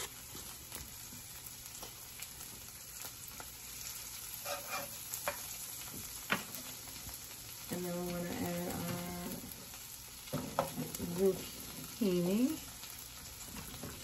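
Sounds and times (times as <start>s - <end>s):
butter sizzling in frying pan: 0.0s - 14.0s.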